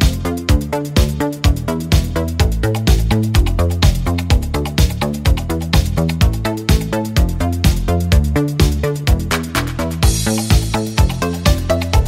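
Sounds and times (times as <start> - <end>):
dance music with driving beat: 0.0 - 12.0.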